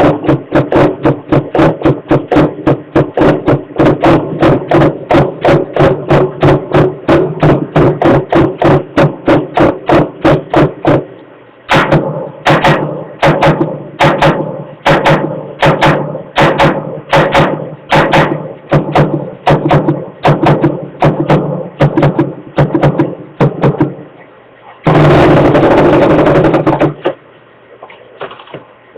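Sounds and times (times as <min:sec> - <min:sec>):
sharp ringing knocks: 0:00.0 - 0:11.1, 0:11.7 - 0:24.0.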